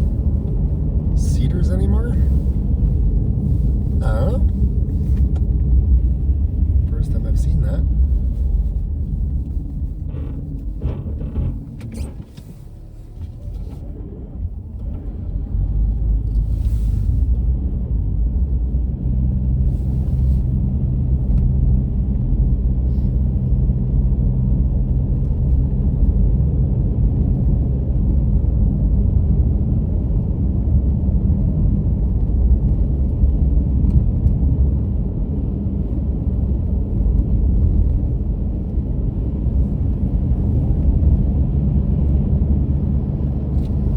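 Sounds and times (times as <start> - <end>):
car driving on road: 0.0 - 43.9.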